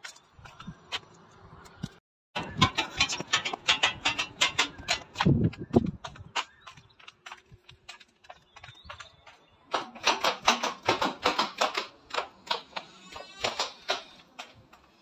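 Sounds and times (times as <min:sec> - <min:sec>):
footsteps on tiled floor and stairs: 0:00.0 - 0:15.0.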